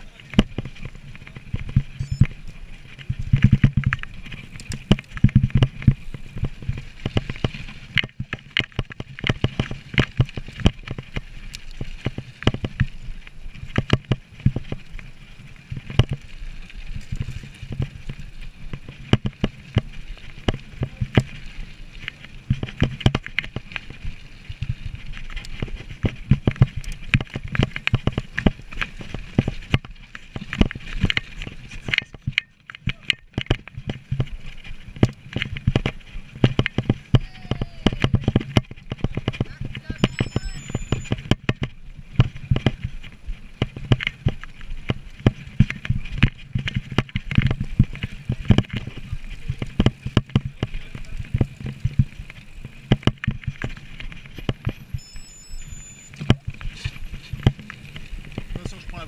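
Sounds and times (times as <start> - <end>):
tyres and wind rumble: 0.0 - 59.0
bike frame rattling and knocking: 0.3 - 2.0, 2.9 - 16.3, 16.9 - 39.8, 41.1 - 54.7.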